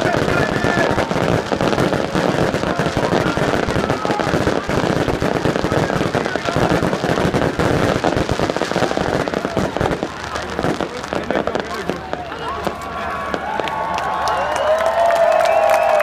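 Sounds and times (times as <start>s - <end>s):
fireworks bursting and crackling: 0.0s - 16.0s.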